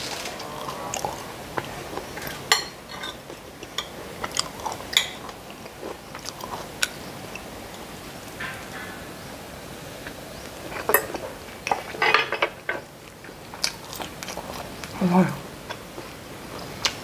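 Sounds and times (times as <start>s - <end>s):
soft chewing: 0.0s - 7.9s, 10.0s - 17.0s.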